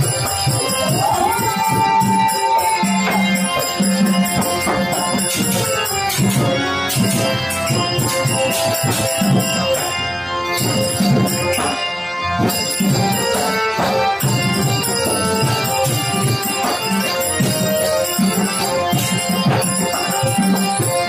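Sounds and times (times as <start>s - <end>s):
held melodic notes: 0.0s - 21.0s
jingling percussion: 0.0s - 21.0s.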